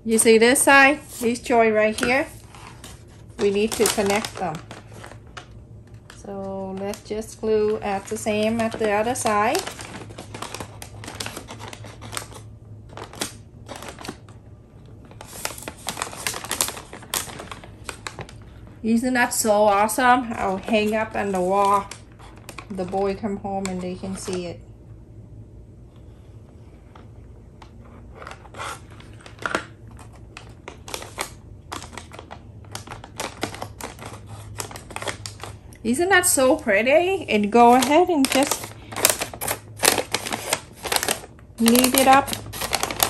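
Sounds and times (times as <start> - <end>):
paper bags crinkling: 0.1 - 14.4, 15.0 - 24.5, 27.8 - 43.0.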